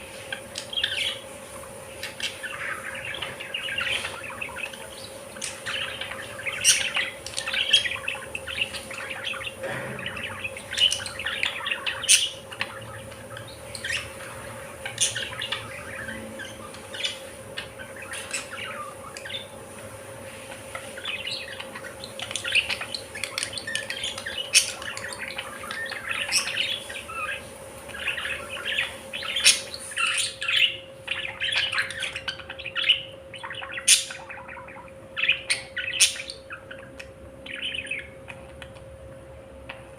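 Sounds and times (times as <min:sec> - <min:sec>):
faint steady hum: 0:00.0 - 0:39.9
budgerigars chirping: 0:00.1 - 0:39.9.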